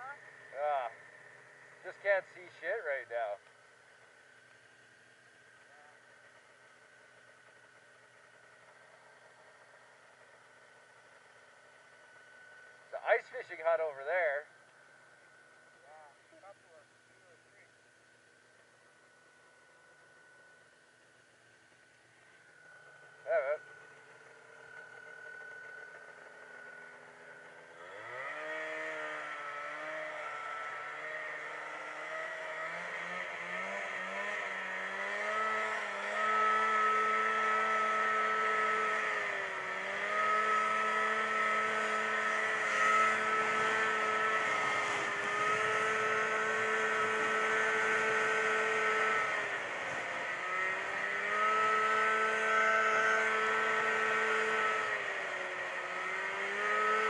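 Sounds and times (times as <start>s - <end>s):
snowmobile engine revving: 0.0s - 3.4s, 5.6s - 14.5s, 22.2s - 57.0s
snowmobile track noise: 0.0s - 14.6s, 22.2s - 57.0s
wind: 0.0s - 57.0s.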